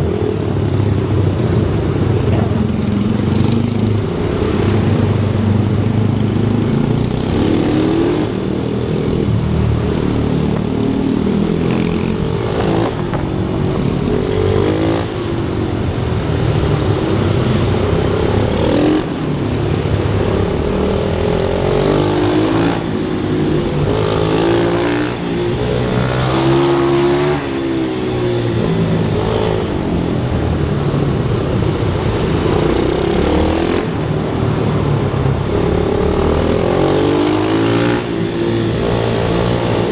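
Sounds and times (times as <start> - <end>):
small motorbike engines revving: 0.0 - 39.9.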